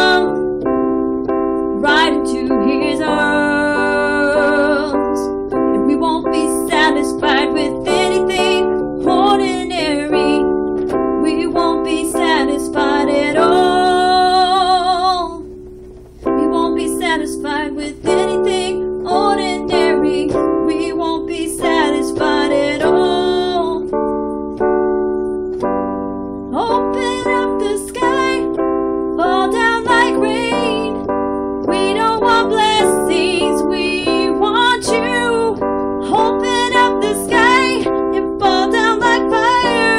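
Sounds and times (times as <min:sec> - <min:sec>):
woman singing: 0:00.0 - 0:00.6, 0:01.8 - 0:10.6, 0:11.2 - 0:15.5, 0:16.3 - 0:23.9, 0:26.5 - 0:28.6, 0:29.2 - 0:31.0, 0:31.7 - 0:39.9
sustained instrumental chords: 0:00.0 - 0:39.9.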